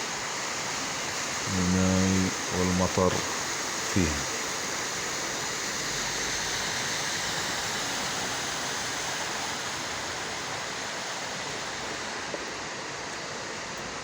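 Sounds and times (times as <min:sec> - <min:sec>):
heavy rain: 0:00.0 - 0:14.0
rainwater rushing along street: 0:00.0 - 0:14.0.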